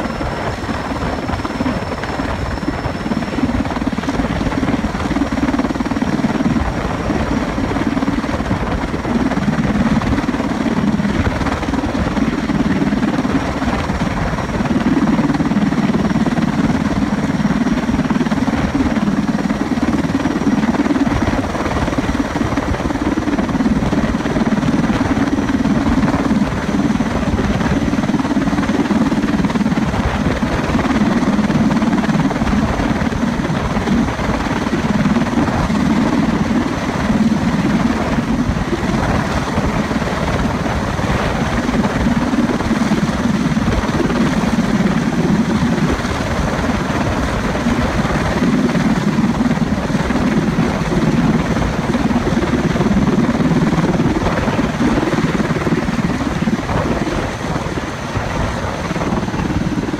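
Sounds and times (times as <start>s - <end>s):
high turbine whine: 0.0s - 59.9s.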